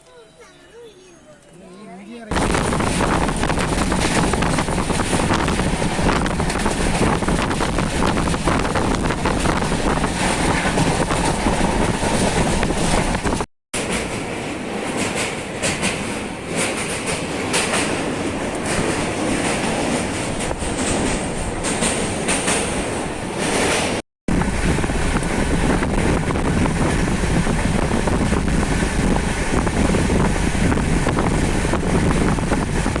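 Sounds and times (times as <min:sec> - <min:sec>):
train wheels clattering over rails: 0:02.3 - 0:33.0.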